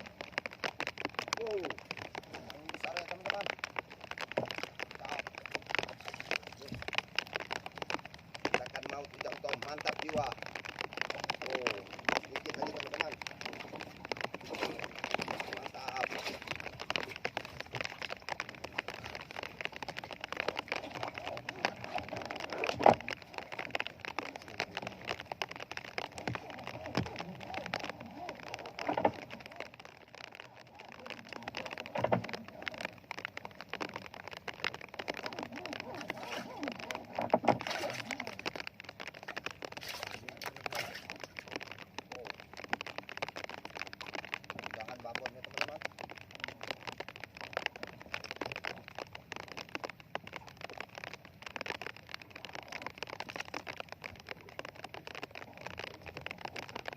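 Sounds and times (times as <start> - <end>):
rain pattering on a boat: 0.0 - 56.9.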